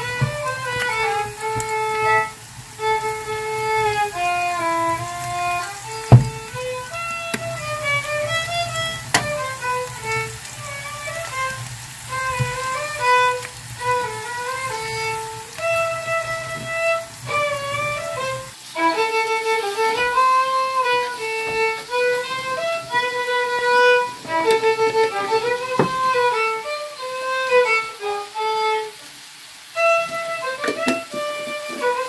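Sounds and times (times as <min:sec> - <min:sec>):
violin melody: 0:00.0 - 0:32.0.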